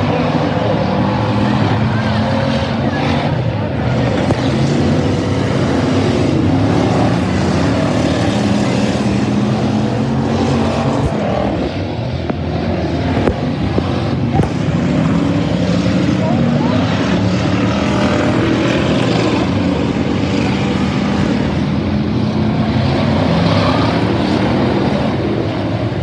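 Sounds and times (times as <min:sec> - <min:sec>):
race car engines roaring: 0:00.0 - 0:26.0.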